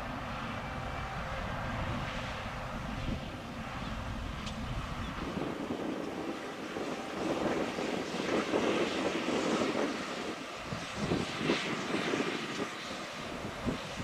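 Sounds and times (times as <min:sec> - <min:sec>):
combine harvester drone: 0:00.0 - 0:14.0.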